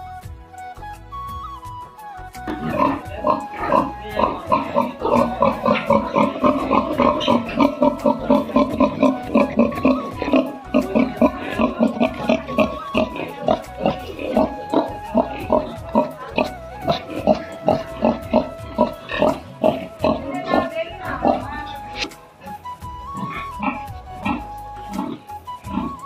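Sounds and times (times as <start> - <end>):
pigs grunting and squealing: 2.5 - 26.0.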